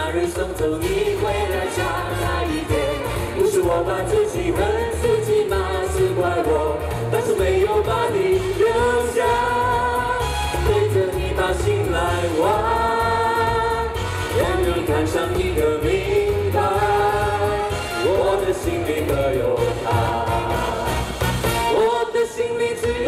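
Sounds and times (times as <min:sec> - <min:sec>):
amplified backing music: 0:00.0 - 0:23.0
singers singing pop song: 0:00.0 - 0:23.0.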